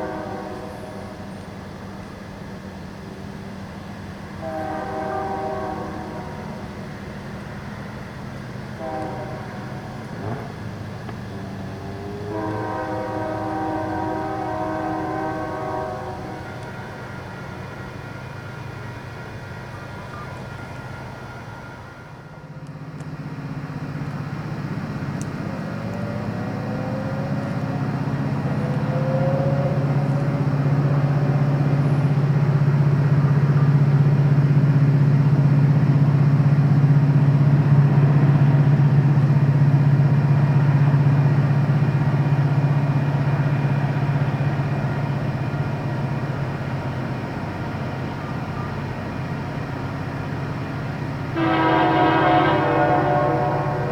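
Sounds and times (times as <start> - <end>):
diesel locomotive engine drone: 0.0 - 53.9.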